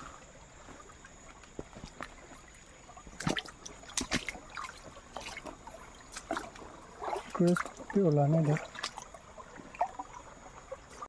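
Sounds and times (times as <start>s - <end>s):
river trickling: 0.0s - 11.0s
water splashes: 0.0s - 11.0s.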